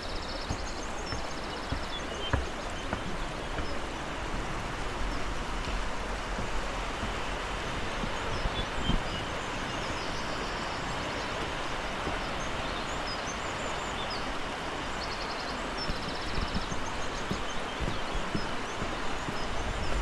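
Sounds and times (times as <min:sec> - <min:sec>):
soft thumps: 0:00.0 - 0:13.2, 0:15.8 - 0:20.0
fast-flowing stream water: 0:00.0 - 0:20.0
small birds chirping: 0:00.0 - 0:20.0.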